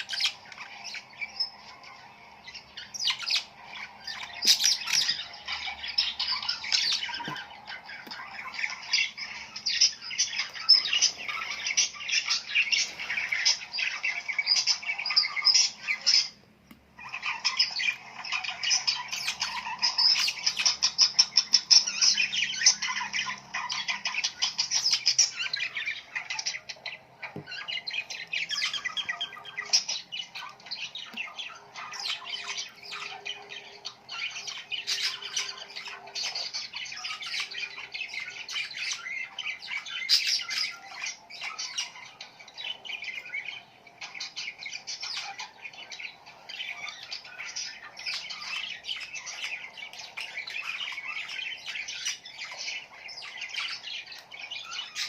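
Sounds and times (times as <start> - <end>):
flock of small birds chirping: 0.0 - 55.0.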